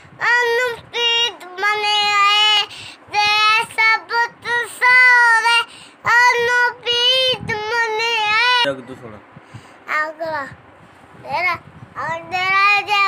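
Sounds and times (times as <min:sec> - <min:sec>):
child singing unaccompanied: 0:00.1 - 0:08.7, 0:09.8 - 0:10.6, 0:11.2 - 0:13.0.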